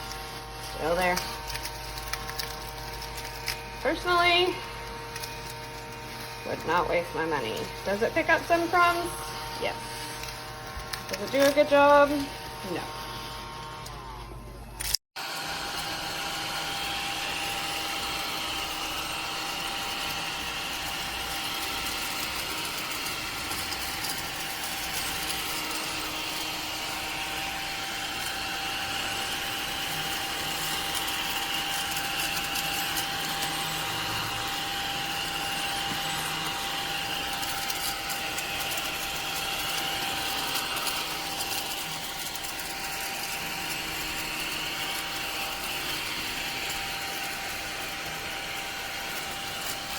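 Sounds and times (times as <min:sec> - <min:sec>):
small vacuum cleaner running: 0:00.0 - 0:49.9.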